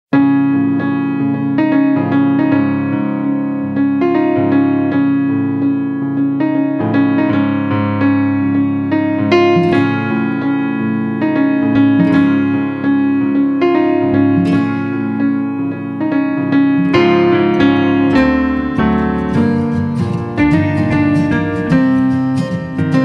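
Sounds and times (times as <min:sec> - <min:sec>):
keyboard music: 0:00.1 - 0:23.0.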